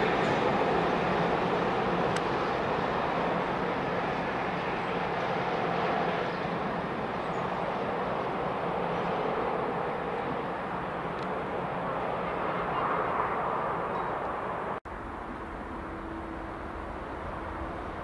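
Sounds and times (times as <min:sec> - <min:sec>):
train wheels rumbling on track: 0:00.0 - 0:12.8, 0:13.6 - 0:18.0.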